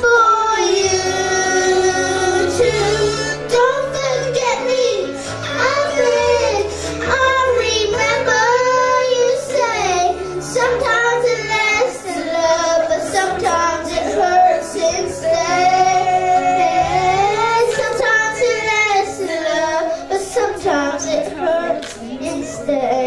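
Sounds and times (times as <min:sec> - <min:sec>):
girl singing into microphone: 0:00.0 - 0:23.0.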